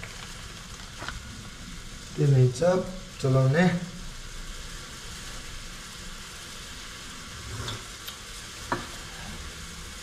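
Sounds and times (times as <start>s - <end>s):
gas burner hiss under wok: 0.0s - 10.0s.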